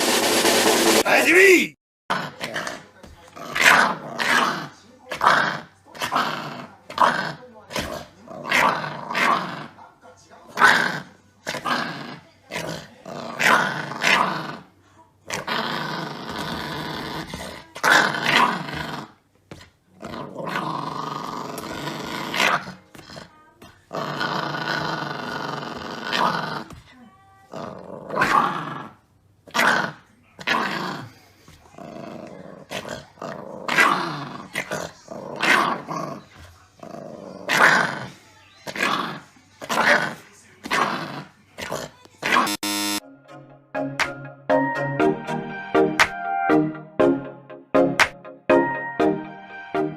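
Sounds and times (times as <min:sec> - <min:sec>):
puppy play-growling: 0:02.1 - 0:42.6.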